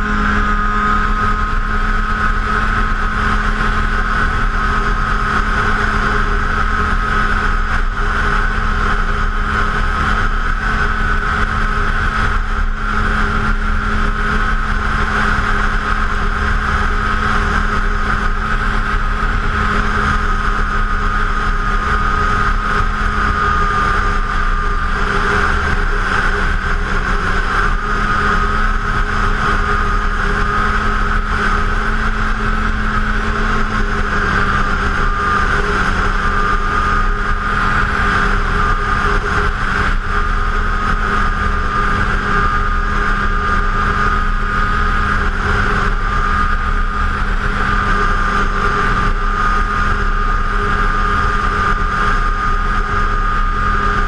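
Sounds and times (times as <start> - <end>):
snowmobile engine whine: 0.0 - 54.0.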